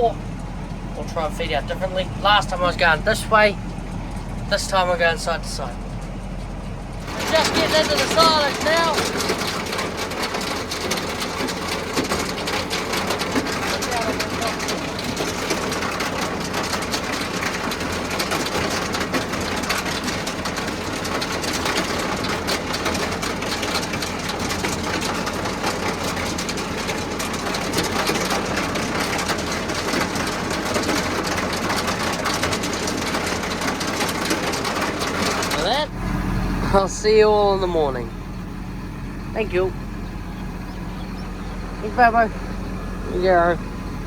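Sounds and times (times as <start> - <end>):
feed wagon mechanical clatter: 0.0 - 44.0
tractor engine running: 0.0 - 44.0.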